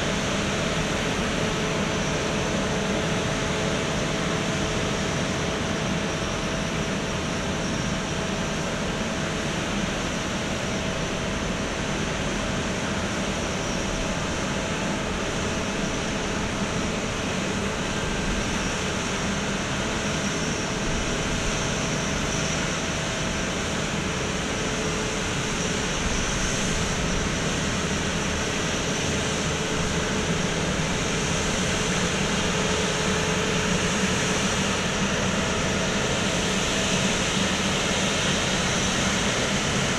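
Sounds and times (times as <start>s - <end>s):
jet airliner idling: 0.0s - 39.9s.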